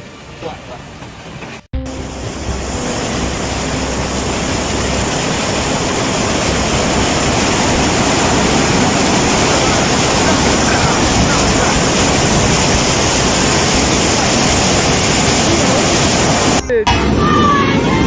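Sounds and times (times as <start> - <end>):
rushing floodwater: 0.0 - 16.6.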